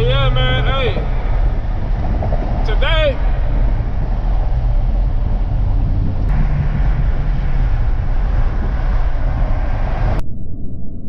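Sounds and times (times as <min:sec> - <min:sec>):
car engine and road rumble: 0:00.0 - 0:10.2.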